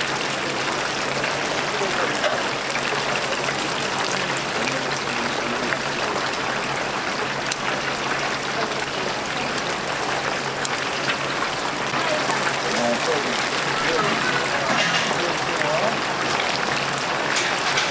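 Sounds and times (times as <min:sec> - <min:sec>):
oil sizzling while deep-frying: 0:00.0 - 0:17.9.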